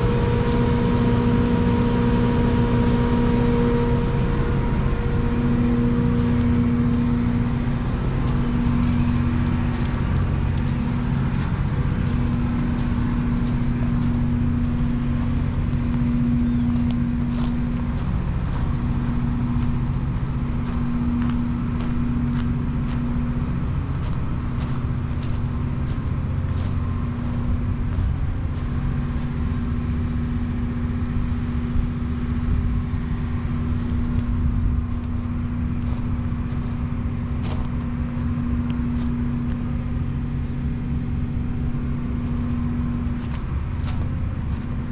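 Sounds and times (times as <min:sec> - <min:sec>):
diesel engines droning: 0:00.0 - 0:44.9.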